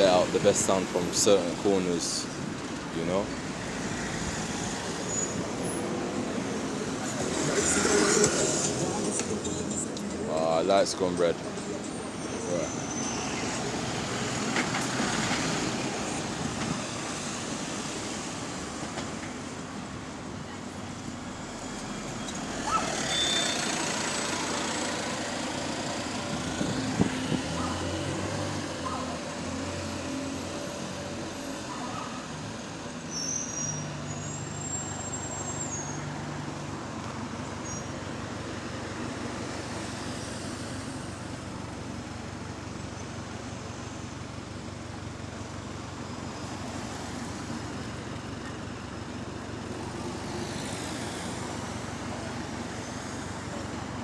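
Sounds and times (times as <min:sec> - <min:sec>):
bus diesel engine: 0:00.0 - 0:54.0
road traffic: 0:00.0 - 0:54.0.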